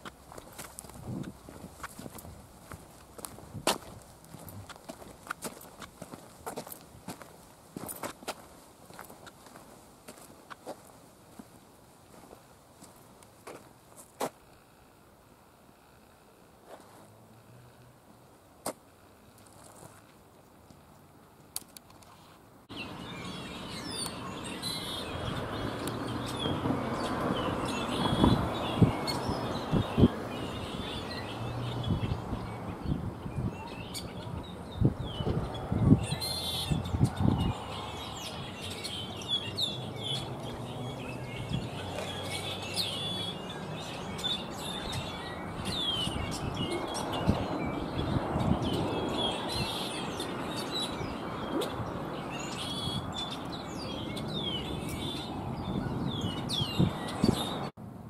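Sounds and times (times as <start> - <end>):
small birds chirping: 0.0 - 11.5, 22.0 - 57.8.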